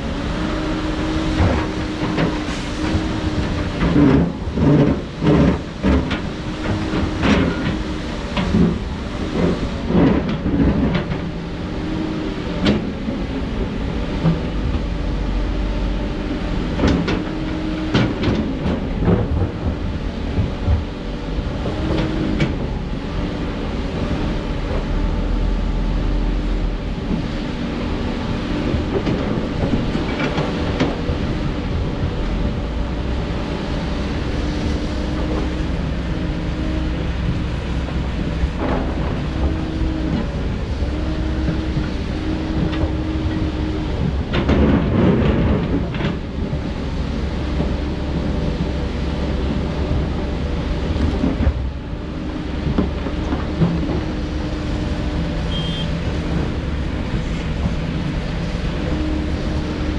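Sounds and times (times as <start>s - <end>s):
excavator diesel engine whining: 0.0s - 59.9s.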